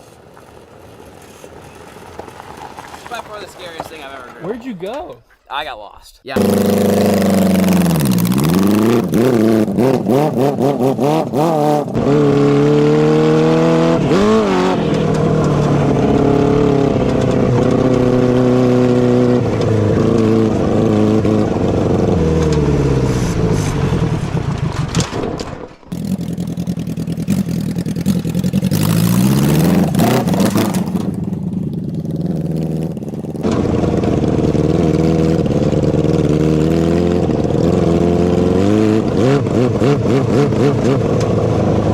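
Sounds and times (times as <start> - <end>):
engine crackle: 0.0 - 5.3, 6.4 - 41.9
motorcycle engine revving: 6.3 - 41.9.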